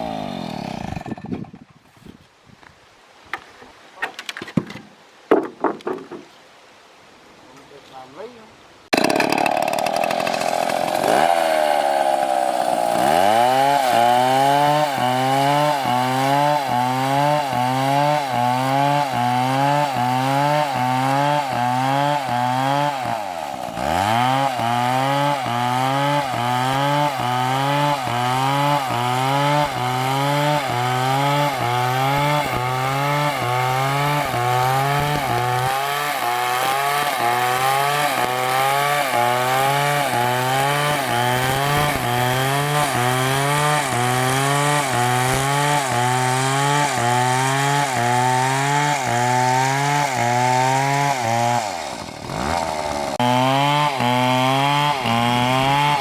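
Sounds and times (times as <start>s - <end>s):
chainsaw cutting a tree: 0.0s - 1.5s, 8.9s - 56.0s.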